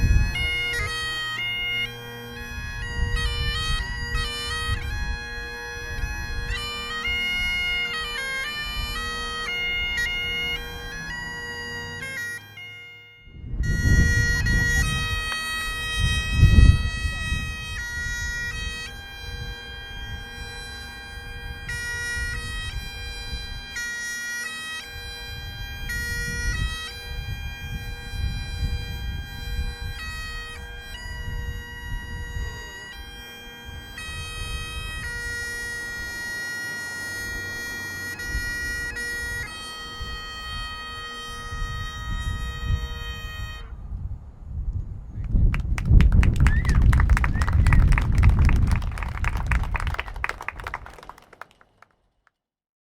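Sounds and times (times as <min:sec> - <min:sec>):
bagpipes playing a melody: 0:00.0 - 0:44.1.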